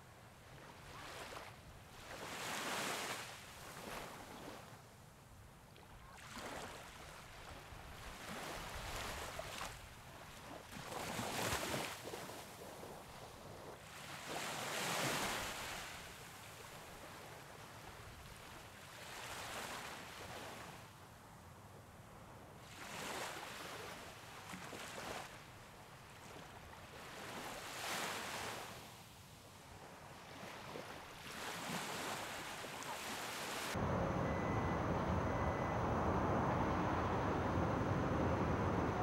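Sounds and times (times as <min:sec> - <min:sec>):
waves breaking on sandy beach: 0:00.0 - 0:21.2, 0:22.6 - 0:39.0.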